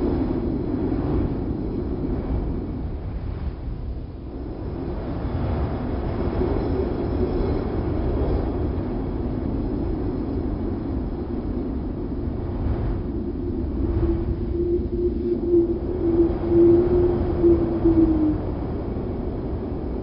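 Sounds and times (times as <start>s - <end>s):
low rumbling wind: 0.0s - 20.0s.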